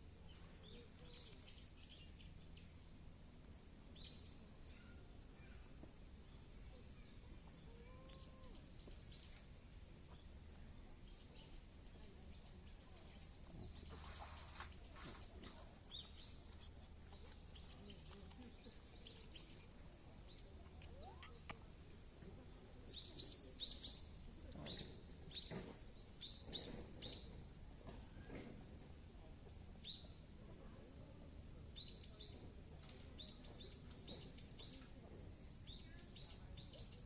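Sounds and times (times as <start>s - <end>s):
faint outdoor hiss: 0.0s - 37.0s
small birds chirping: 0.1s - 37.0s.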